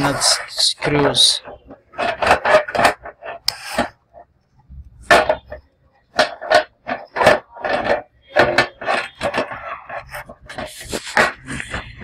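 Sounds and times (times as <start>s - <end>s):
plastic cover scraping on casing: 0.0s - 4.3s, 5.1s - 12.0s.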